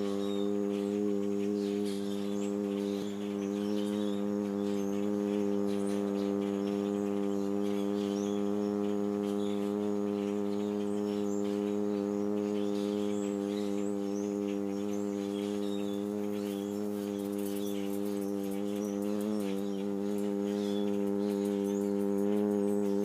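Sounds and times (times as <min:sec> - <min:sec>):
birds chirping faintly: 0:00.0 - 0:23.0
steady low hum: 0:00.0 - 0:23.0.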